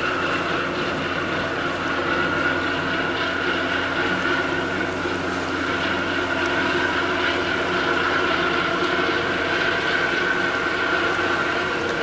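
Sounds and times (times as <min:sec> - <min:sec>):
diesel engines droning with whine: 0:00.0 - 0:12.0.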